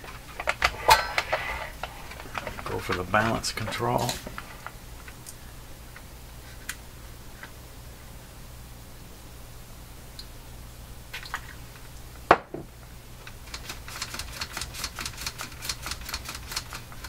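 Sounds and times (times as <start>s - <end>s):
low steady hum: 0.0s - 13.8s.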